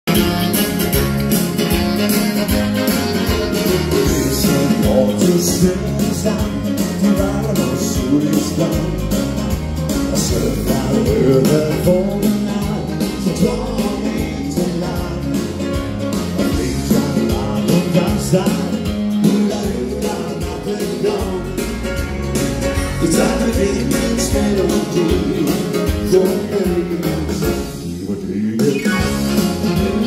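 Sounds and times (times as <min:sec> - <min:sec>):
dance band playing: 0:00.0 - 0:30.0
man singing: 0:03.4 - 0:30.0.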